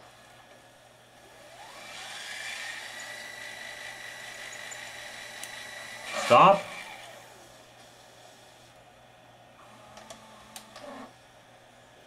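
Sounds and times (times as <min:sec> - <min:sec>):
tape deck reels whirring: 0:00.0 - 0:08.9, 0:09.6 - 0:11.2.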